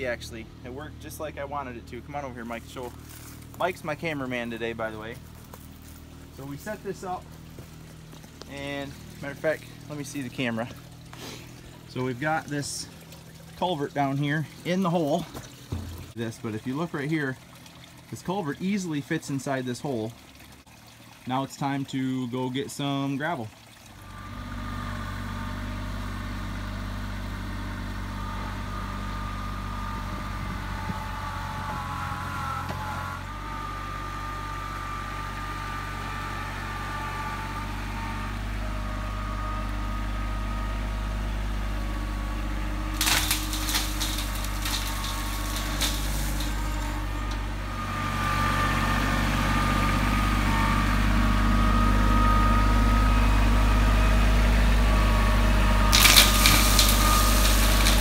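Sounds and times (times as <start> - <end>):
tractor engine running: 0.0 - 18.8, 23.9 - 58.0.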